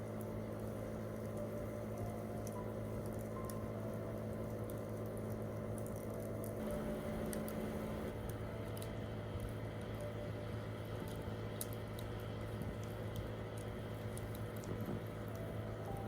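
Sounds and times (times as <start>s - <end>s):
wood campfire crackling: 0.0s - 16.0s.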